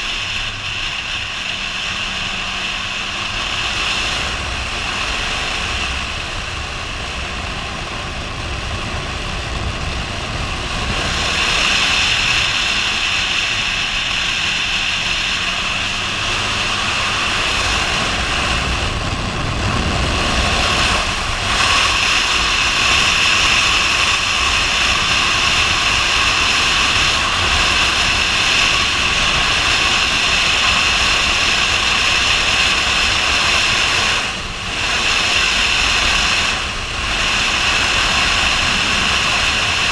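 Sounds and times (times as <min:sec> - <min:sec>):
motorcycle engine running: 0:00.0 - 0:39.9
wind rushing over helmet: 0:00.0 - 0:39.9.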